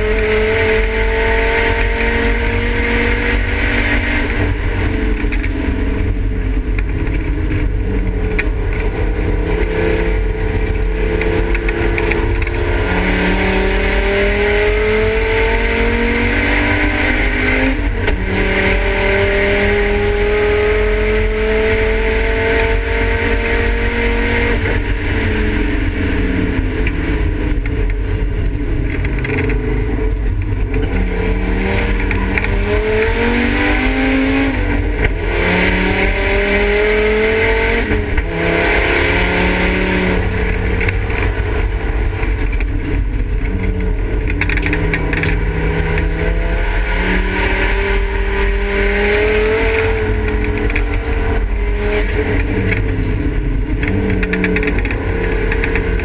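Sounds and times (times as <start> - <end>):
race car engine revving: 0.0 - 56.0
road and wind noise: 0.0 - 56.0.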